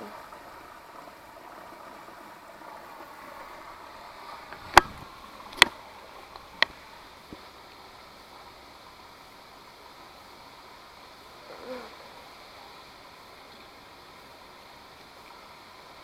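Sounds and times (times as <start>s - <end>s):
creek water running: 0.0s - 16.0s.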